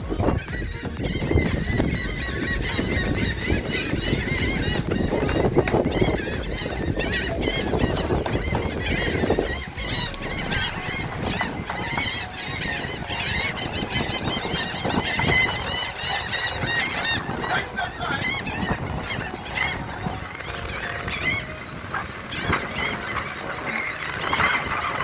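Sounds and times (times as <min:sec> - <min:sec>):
flock of birds chattering: 0:00.0 - 0:25.0.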